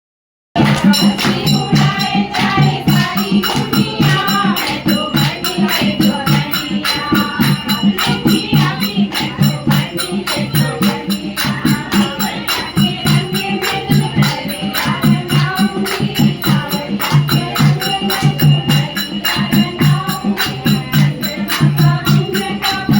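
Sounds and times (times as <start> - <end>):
folk song singing: 0.6 - 22.9
quick percussion beat: 0.6 - 22.9.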